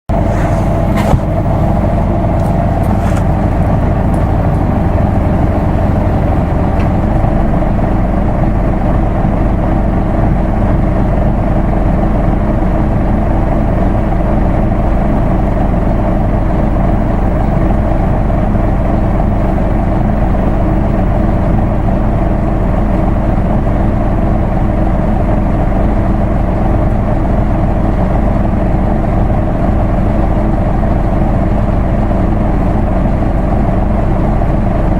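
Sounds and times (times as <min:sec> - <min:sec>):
bus diesel engine running: 0:00.1 - 0:34.9.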